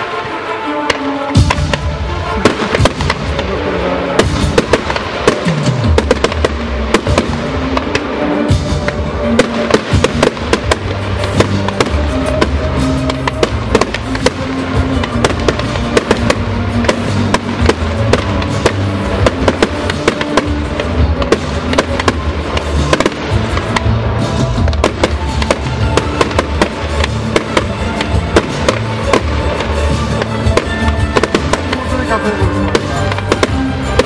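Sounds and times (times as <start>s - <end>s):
fireworks bangs and crackles: 0.0s - 34.0s
music playing: 0.0s - 34.0s.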